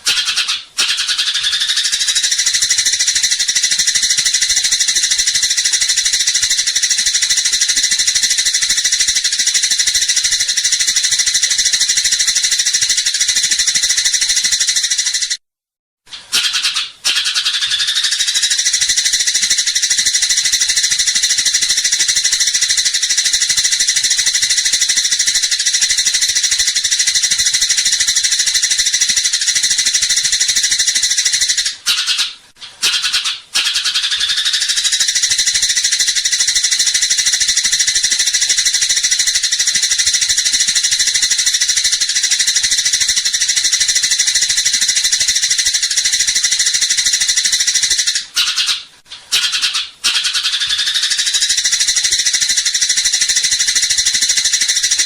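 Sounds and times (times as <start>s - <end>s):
sparrows chattering: 0.0s - 15.4s, 16.4s - 55.0s.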